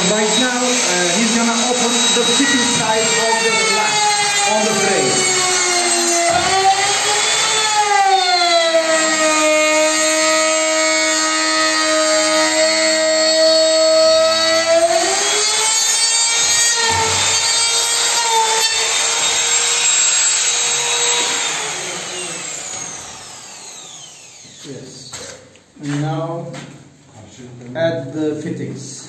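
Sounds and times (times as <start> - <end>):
power tool motor cutting: 0.0 - 24.7.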